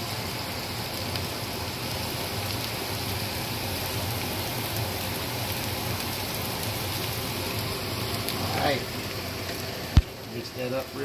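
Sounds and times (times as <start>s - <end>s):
potatoes sizzling in skillet: 0.0s - 11.0s.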